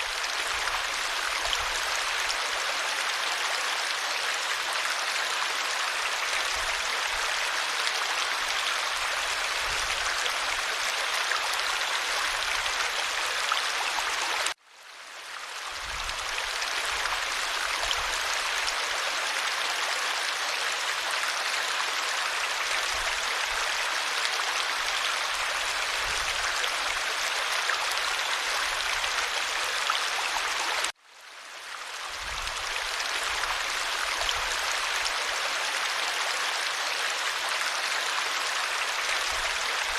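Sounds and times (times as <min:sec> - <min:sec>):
stream water rushing and splashing: 0:00.0 - 0:39.9.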